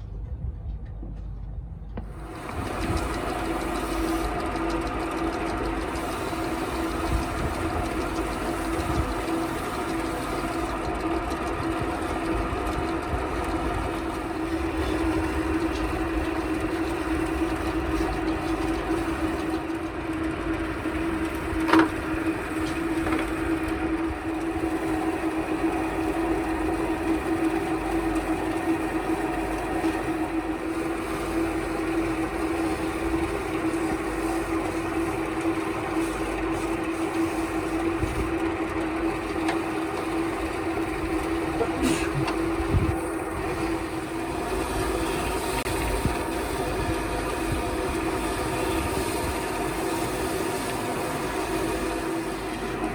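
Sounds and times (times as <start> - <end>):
motor running steadily: 1.8 - 52.9.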